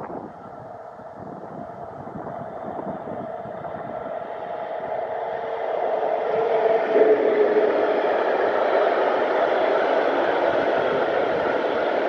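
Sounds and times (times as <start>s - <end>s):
locomotive hum: 0.0s - 12.0s
train rumble: 0.0s - 12.0s.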